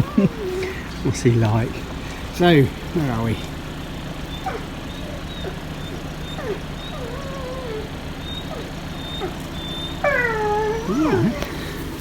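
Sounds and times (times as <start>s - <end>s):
dogs whining: 0.0s - 12.0s.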